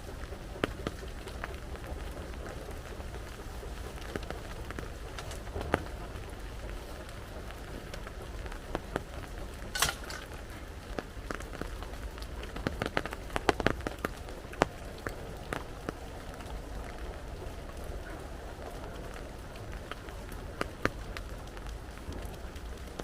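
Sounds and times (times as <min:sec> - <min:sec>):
heavy rain: 0:00.0 - 0:23.0
sharp ticks and cracks: 0:00.0 - 0:23.0.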